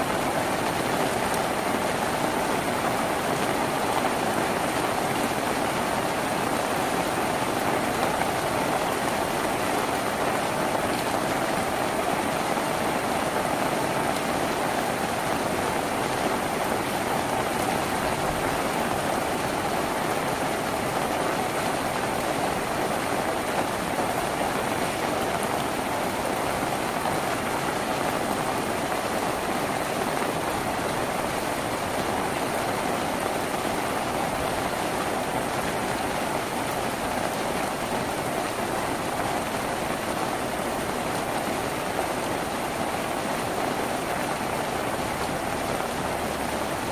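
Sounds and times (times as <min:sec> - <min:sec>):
heavy rain on a tin roof: 0:00.0 - 0:46.9.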